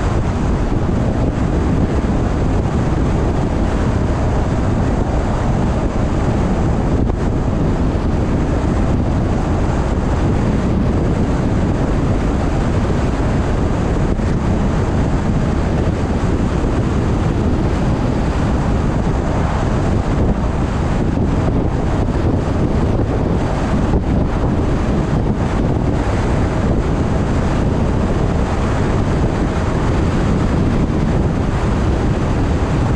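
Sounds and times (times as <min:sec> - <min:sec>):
car road and wind noise: 0:00.0 - 0:32.9.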